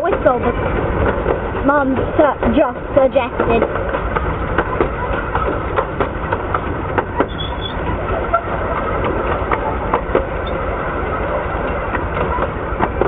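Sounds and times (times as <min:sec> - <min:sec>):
miniature train rumble: 0:00.0 - 0:13.0
wheels clicking over rails: 0:00.0 - 0:13.0.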